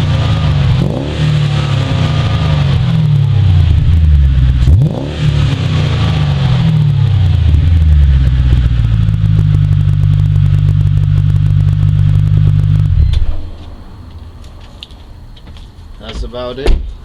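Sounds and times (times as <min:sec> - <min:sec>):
car engine exhaust idling: 0:00.0 - 0:14.3.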